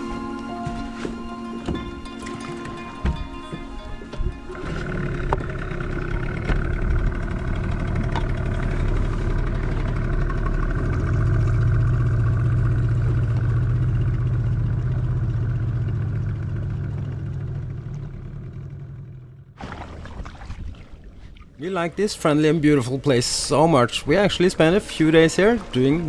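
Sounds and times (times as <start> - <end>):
engine humming: 0.0 - 20.0, 20.6 - 26.0.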